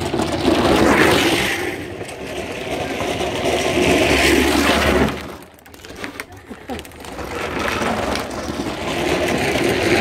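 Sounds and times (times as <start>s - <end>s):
wheels scraping across asphalt: 0.0s - 10.0s.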